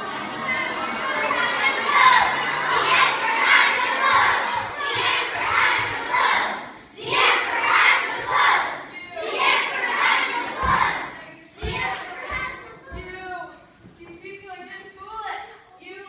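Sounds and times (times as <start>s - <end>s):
children shouting together: 0.0s - 13.2s.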